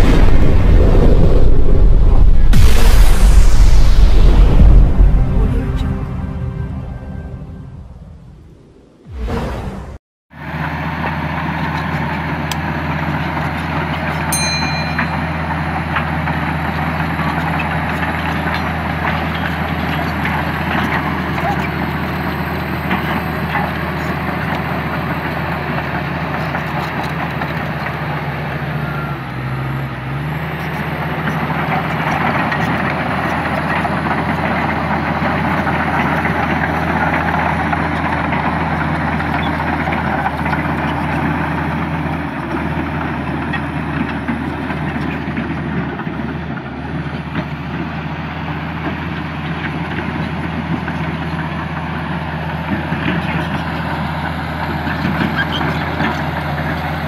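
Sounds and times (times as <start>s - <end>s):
bulldozer diesel engine: 10.4s - 57.0s.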